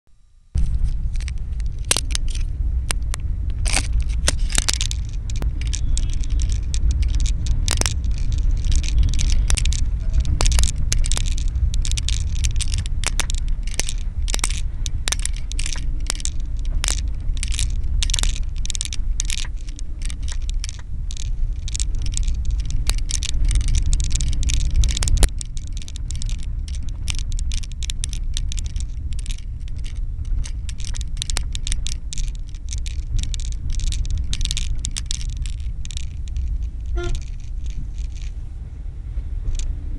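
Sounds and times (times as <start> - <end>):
car interior rumble: 0.6 - 39.9
scrapes and crackling clicks: 0.6 - 39.9.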